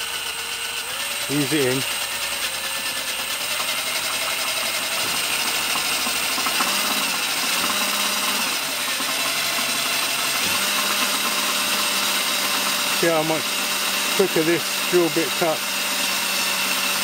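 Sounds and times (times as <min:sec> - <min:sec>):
cordless drill drilling into metal: 0:00.0 - 0:17.0.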